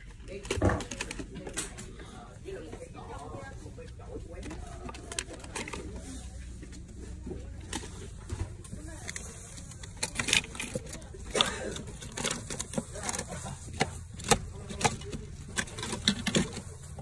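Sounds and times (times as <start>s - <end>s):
faint voices: 0.0s - 17.0s.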